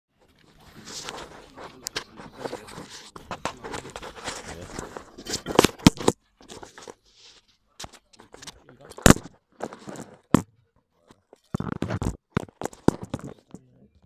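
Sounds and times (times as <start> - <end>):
fingers rubbing on phone microphone: 0.3 - 10.5, 11.5 - 13.6.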